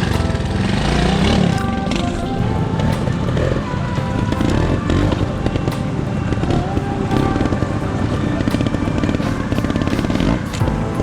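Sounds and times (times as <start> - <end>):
background music: 0.0 - 11.0
motorcycle engine revving: 0.0 - 11.0.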